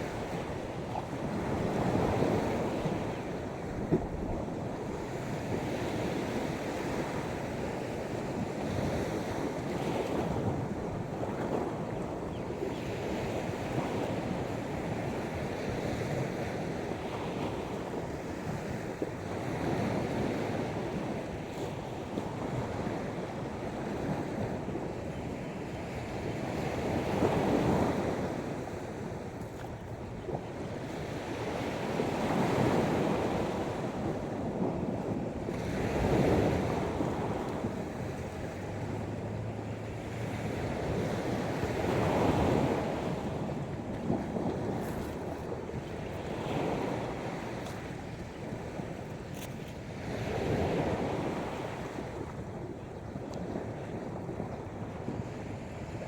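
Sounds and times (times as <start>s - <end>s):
sea waves washing onto beach: 0.0s - 56.0s
wind buffeting microphone: 0.0s - 56.0s.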